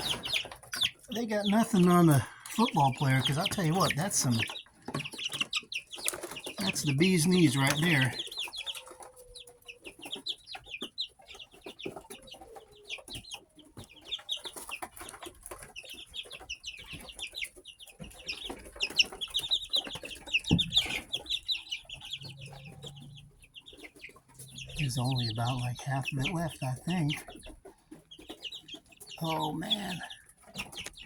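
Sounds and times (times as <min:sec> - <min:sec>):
young chickens peeping: 0:00.0 - 0:31.0.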